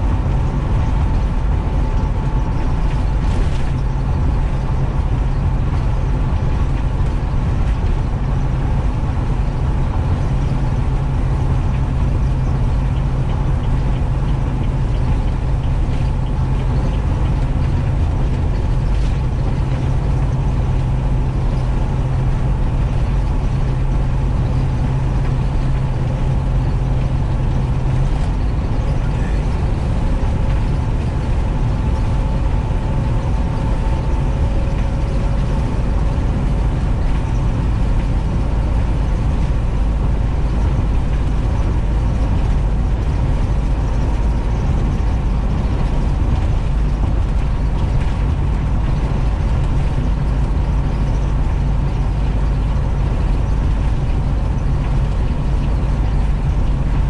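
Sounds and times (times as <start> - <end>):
bus engine drone: 0.0 - 57.0
low hum: 0.0 - 57.0
road noise inside vehicle: 0.0 - 57.0.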